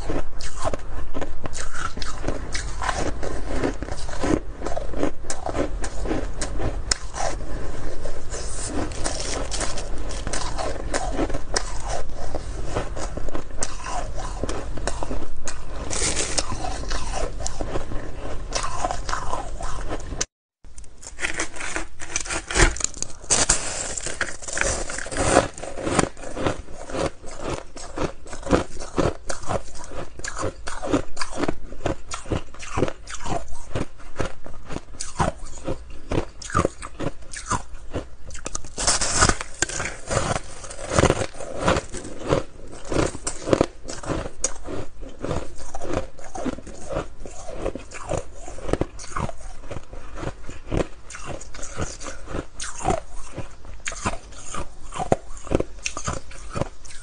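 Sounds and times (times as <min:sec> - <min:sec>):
ice being chewed: 0:00.0 - 0:20.3, 0:21.0 - 0:57.0.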